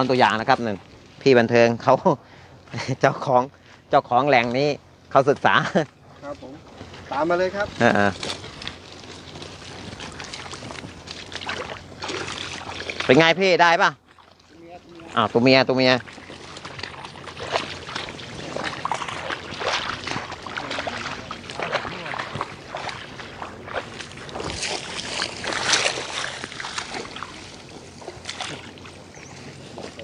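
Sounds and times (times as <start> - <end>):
footsteps splashing through water: 5.3 - 30.0.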